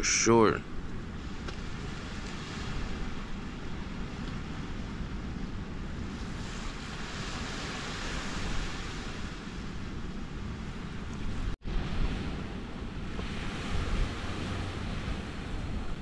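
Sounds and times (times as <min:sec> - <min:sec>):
small waves washing onto beach: 0:00.0 - 0:10.0, 0:10.7 - 0:16.0
wind rumbling on microphone: 0:00.0 - 0:16.0.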